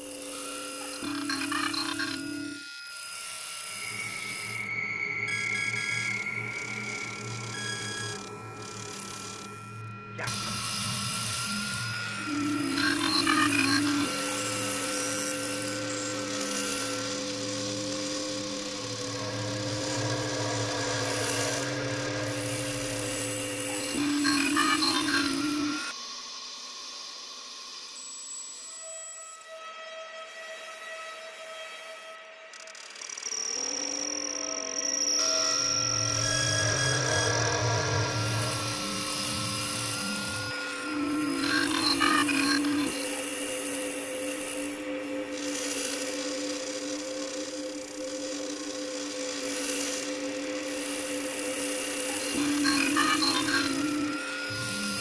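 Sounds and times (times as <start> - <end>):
scraping electronic drone: 0.0 - 26.0, 30.2 - 55.0.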